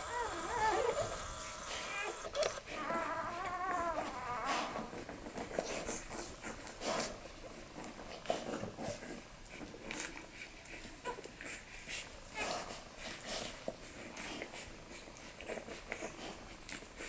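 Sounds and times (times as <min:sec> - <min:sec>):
puppies squeaking and whining: 0:00.0 - 0:06.8, 0:08.5 - 0:17.0
dog licking puppies: 0:00.0 - 0:17.0.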